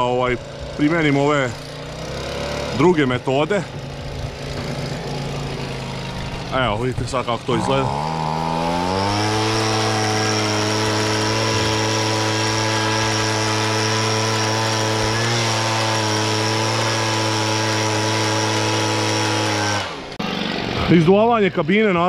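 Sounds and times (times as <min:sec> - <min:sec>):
engine-driven blower rushing air: 0:00.0 - 0:22.0.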